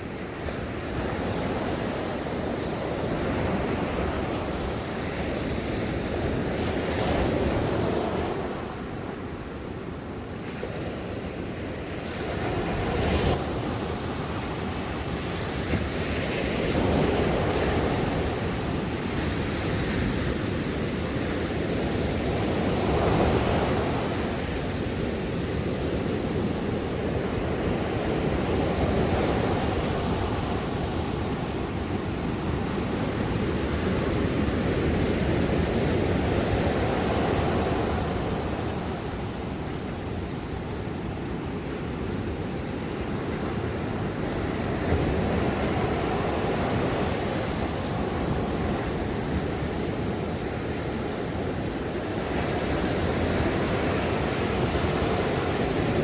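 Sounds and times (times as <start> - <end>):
ocean waves breaking on shore: 0.1 - 56.0.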